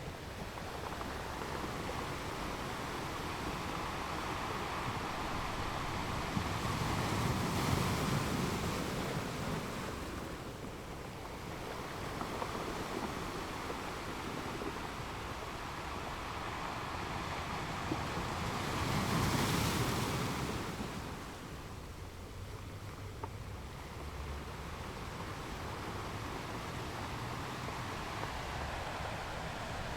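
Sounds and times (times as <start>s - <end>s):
sea waves washing: 0.0s - 29.9s
wind: 0.0s - 29.9s.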